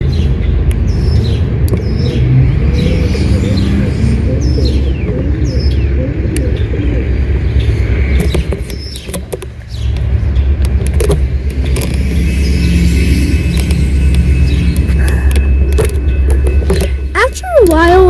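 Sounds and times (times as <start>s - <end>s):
diesel locomotive rumble: 0.0s - 18.0s.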